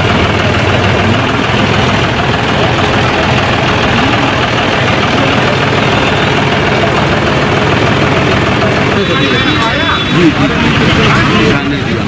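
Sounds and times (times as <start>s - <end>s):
street traffic din: 0.0s - 12.0s
vehicle engines idling: 0.0s - 12.0s.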